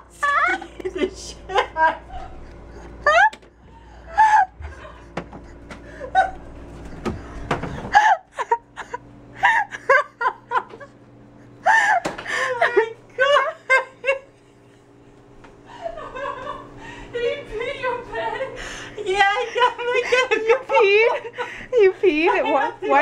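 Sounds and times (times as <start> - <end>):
woman laughing with gasps: 0.1 - 10.8, 11.4 - 14.4, 15.6 - 17.4, 18.4 - 22.3.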